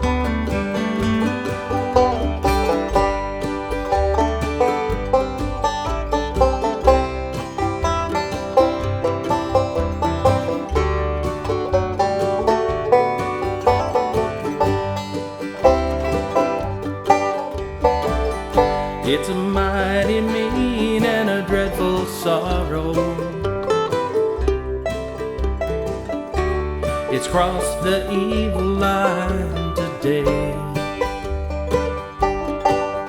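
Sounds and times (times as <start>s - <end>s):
banjo: 0.0s - 33.0s
bass notes: 0.0s - 33.0s
mandolin: 0.0s - 33.0s.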